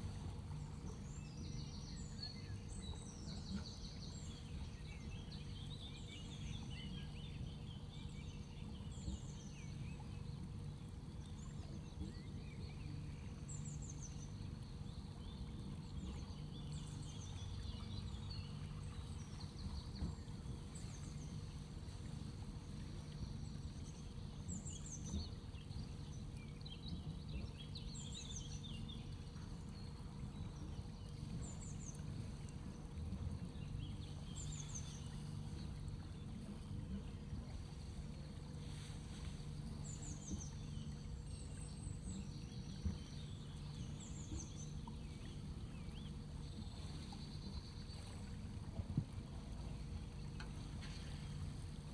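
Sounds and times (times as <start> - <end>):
birds chirping: 0.0 - 51.9
birds twittering: 0.0 - 51.9
boat engine running: 0.0 - 51.9.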